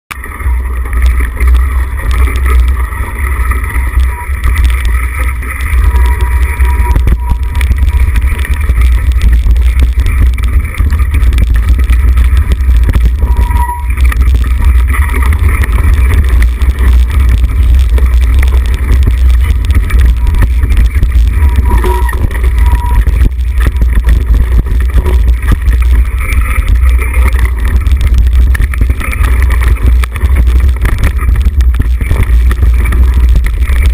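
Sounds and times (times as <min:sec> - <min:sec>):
bike rattling and knocking: 0:00.1 - 0:33.9
bike tyres on gravel: 0:00.1 - 0:33.9
wind rumble on microphone: 0:00.1 - 0:33.9.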